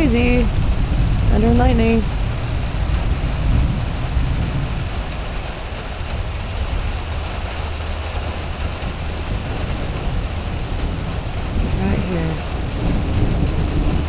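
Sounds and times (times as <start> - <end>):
heavy rain hissing: 0.0 - 14.0
rolling thunder: 0.0 - 14.0.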